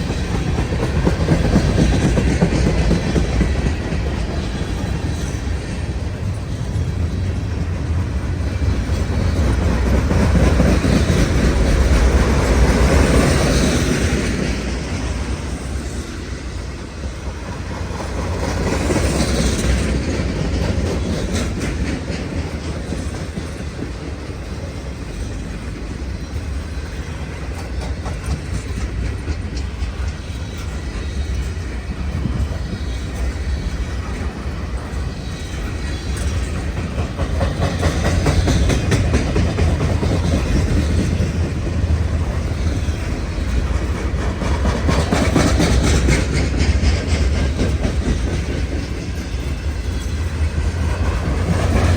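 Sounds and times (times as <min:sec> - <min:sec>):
freight train rumbling past: 0:00.0 - 0:51.9
wheels clacking over rail joints: 0:00.0 - 0:51.9.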